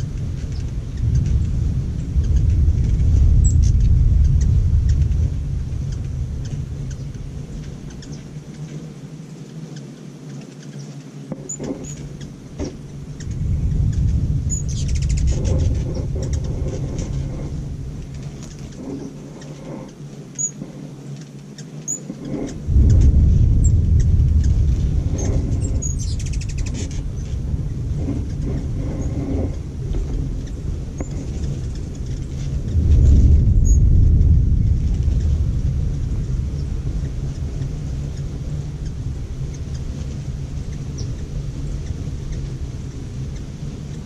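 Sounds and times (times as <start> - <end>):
distant thunder rumbling: 0.0 - 8.6, 11.5 - 20.9, 21.9 - 44.0
hummingbirds chirping: 0.0 - 44.0.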